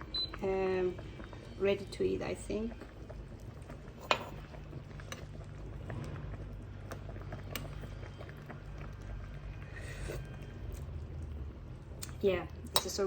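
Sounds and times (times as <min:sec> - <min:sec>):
soup simmering in a pot: 0:00.0 - 0:13.0.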